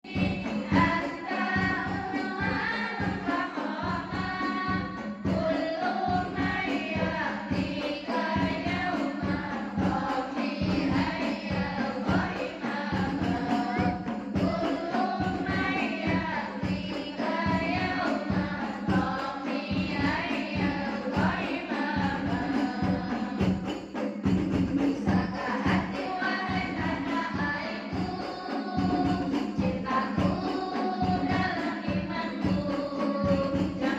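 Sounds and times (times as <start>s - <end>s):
women's choir singing: 0.0s - 24.1s, 24.8s - 33.9s
hand percussion beat: 0.0s - 33.9s.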